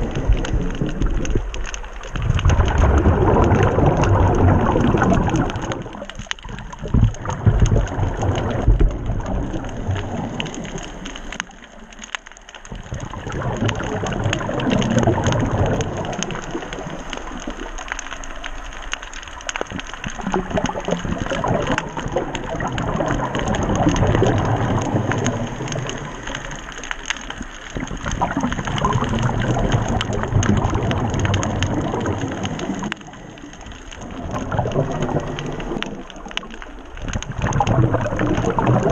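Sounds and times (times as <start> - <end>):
fine underwater crackling: 0.0 - 38.9
low rushing water surges: 0.0 - 38.9.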